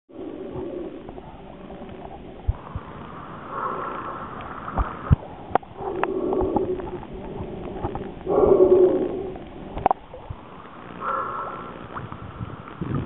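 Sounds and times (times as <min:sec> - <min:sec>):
water sloshing and gurgling: 0:00.1 - 0:13.0.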